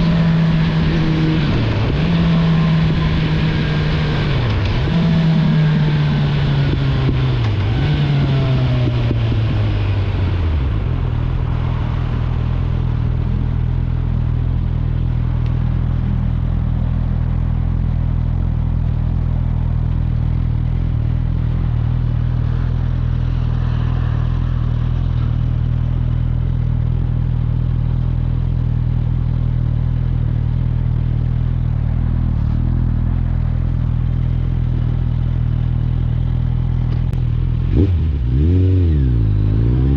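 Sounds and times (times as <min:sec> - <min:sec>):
motorcycle engine slowing and idling: 0:00.0 - 0:39.9.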